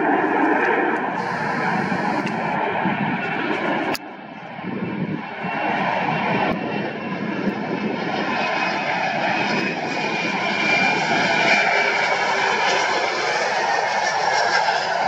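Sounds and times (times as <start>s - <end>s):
jet engines rushing and whining: 0.0s - 15.0s.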